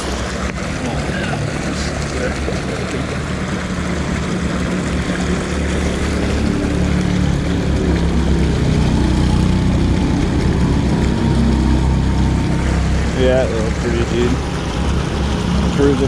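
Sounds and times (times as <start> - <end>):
low engine drone of vehicles: 0.0 - 16.0.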